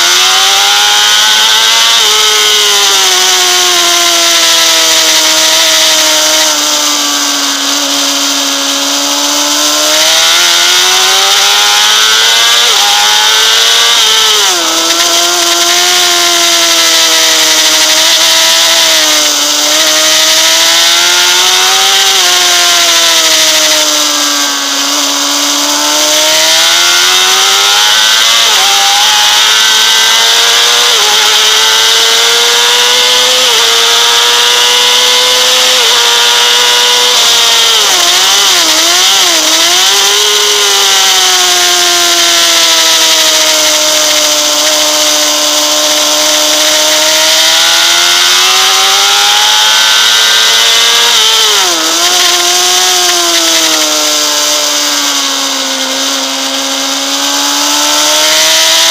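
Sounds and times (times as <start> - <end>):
motorcycle engine revving high: 0.0 - 58.9.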